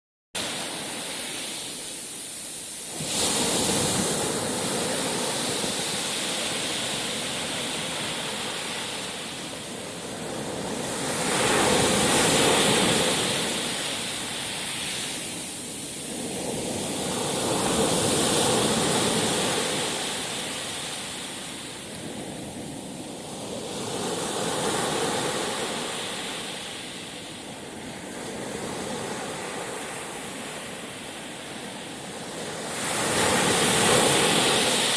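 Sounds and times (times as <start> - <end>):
waves breaking on shore: 0.4 - 34.9.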